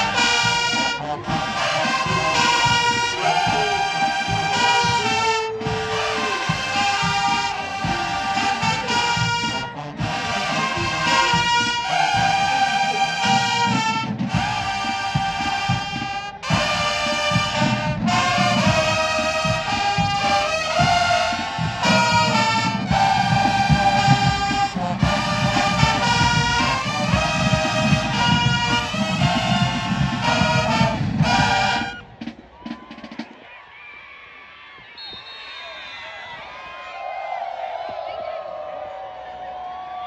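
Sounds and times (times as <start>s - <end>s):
marching band brass playing: 0.0s - 33.3s.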